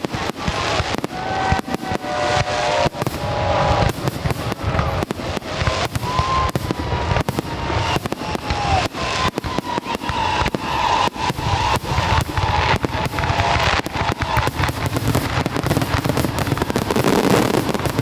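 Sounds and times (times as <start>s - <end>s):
firework whistles: 0.0s - 18.0s
fireworks bangs and pops: 0.0s - 18.0s.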